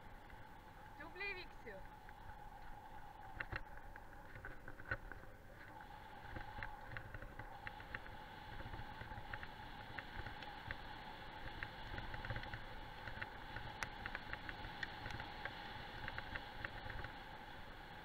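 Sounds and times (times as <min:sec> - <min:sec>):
faint steady tone: 0:00.0 - 0:18.0
wheels rolling over gravel: 0:00.0 - 0:18.0
wind rumbling on microphone: 0:00.0 - 0:18.0.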